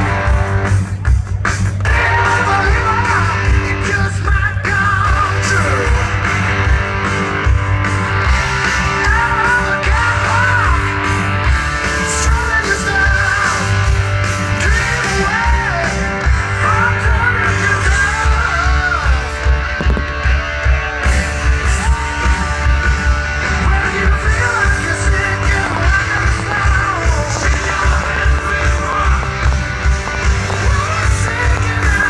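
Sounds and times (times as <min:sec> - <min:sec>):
loud rock music: 0:00.0 - 0:32.0.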